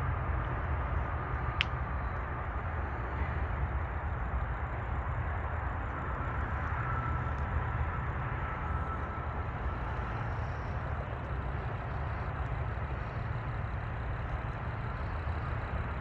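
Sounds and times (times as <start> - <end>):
faint thin whine: 0.0 - 16.0
low rumble and hiss: 0.0 - 16.0.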